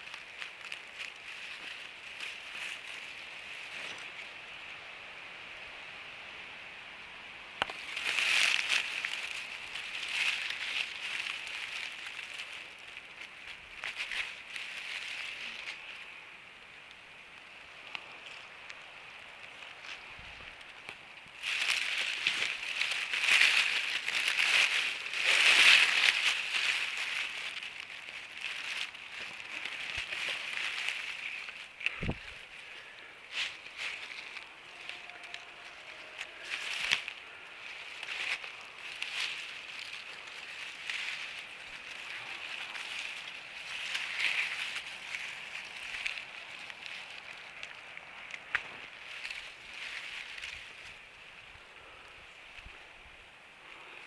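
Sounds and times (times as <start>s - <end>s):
dry grass rustling and crackling: 0.0s - 54.0s.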